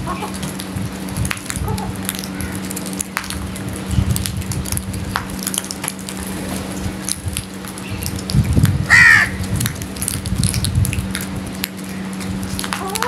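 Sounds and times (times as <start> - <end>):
birds pecking grain on concrete: 0.0 - 13.0
low hum: 0.0 - 13.0.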